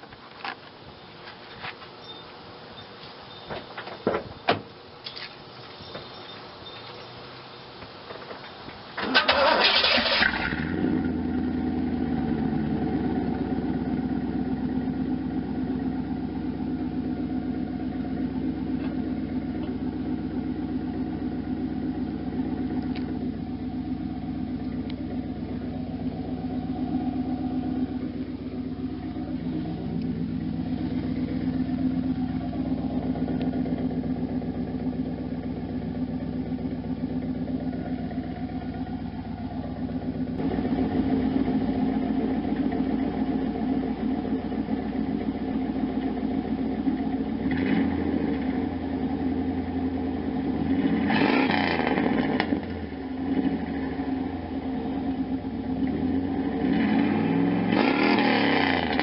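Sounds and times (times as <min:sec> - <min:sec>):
car engine idling and revving: 0:03.3 - 0:59.0.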